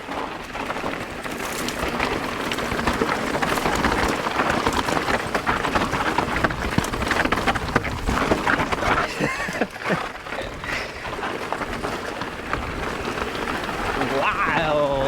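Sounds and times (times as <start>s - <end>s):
bike rattling: 0.0s - 15.0s
tyres crunching on rock and gravel: 0.0s - 15.0s.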